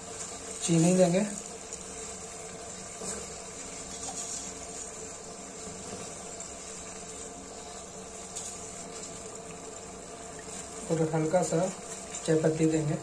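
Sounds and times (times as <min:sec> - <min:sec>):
water boiling in pot: 0:00.0 - 0:13.0.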